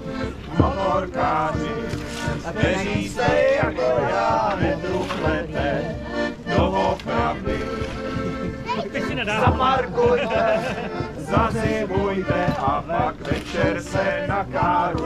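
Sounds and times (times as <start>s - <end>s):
accordion playing: 0.0s - 15.0s.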